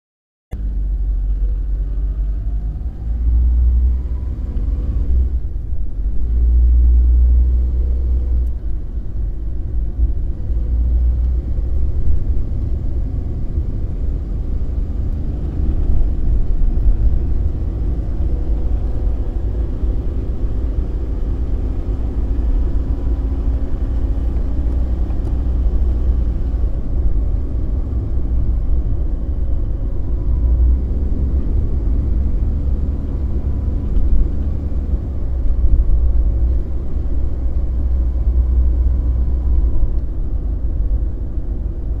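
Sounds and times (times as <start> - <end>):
car engine and road noise: 0.5 - 42.0.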